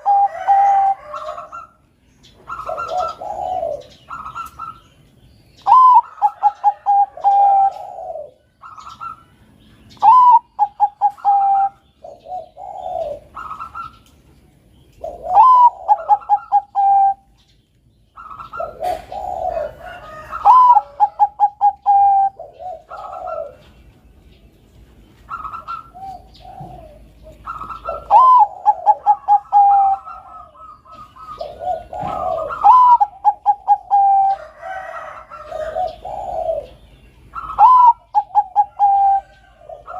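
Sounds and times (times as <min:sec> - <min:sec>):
dove cooing: 0:00.0 - 0:05.0, 0:05.6 - 0:14.1, 0:14.9 - 0:17.4, 0:18.1 - 0:24.0, 0:25.2 - 0:39.9.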